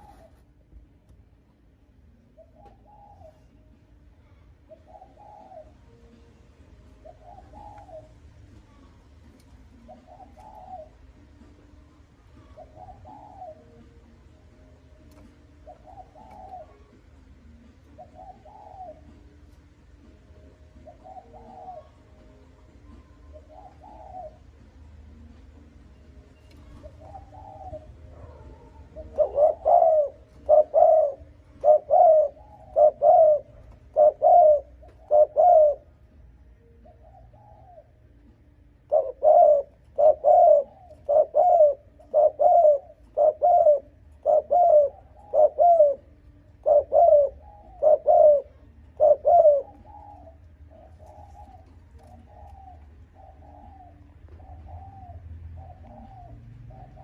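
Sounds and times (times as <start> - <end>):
dove cooing: 0.0 - 0.6, 1.7 - 57.0.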